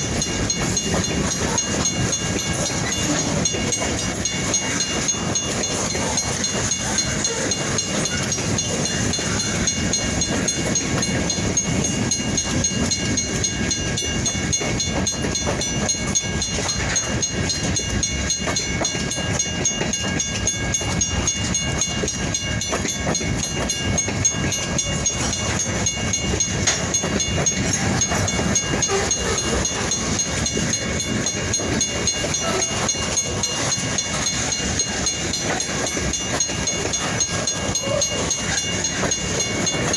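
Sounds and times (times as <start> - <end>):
low rumble of train: 0.0 - 39.9
train wheels clattering on rails: 0.0 - 39.9.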